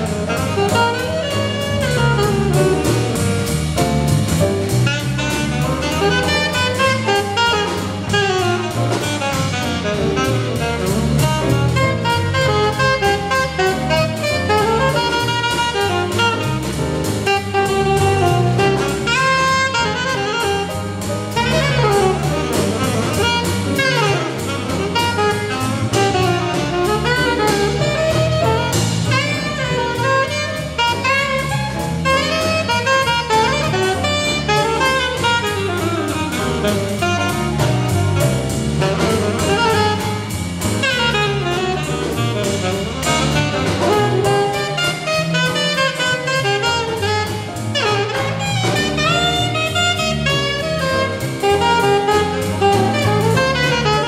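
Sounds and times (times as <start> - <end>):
alto saxophone solo: 0.0 - 54.0
drum kit: 0.0 - 54.0
jazz big band: 0.0 - 54.0.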